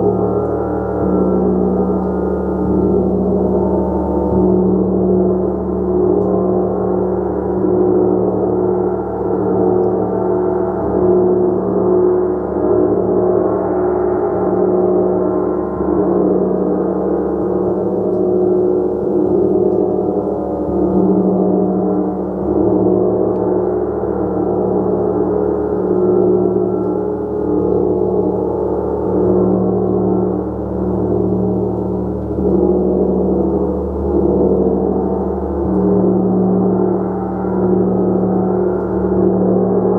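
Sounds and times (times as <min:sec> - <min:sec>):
gong played with soft strokes: 0:00.0 - 0:39.9.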